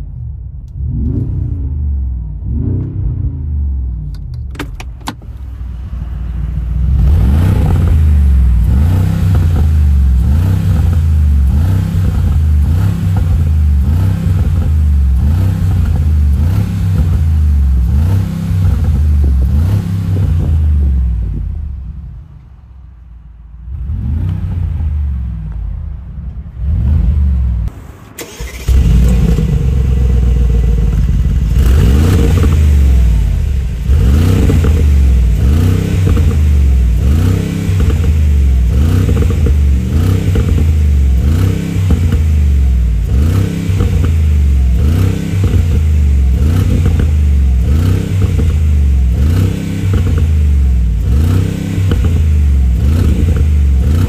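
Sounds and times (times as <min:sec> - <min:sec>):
car engine exhaust revving: 0:00.0 - 0:04.2, 0:05.0 - 0:22.2, 0:23.6 - 0:54.0.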